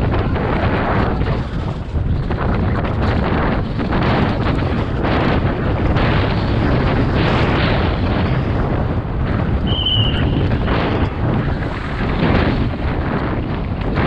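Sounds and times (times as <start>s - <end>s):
bike rattling: 0.0s - 14.0s
wind on microphone: 0.0s - 14.0s.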